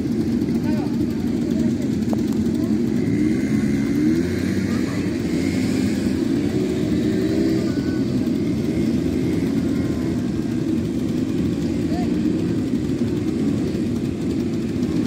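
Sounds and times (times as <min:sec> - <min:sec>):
quad bike engines revving: 0:00.0 - 0:15.0.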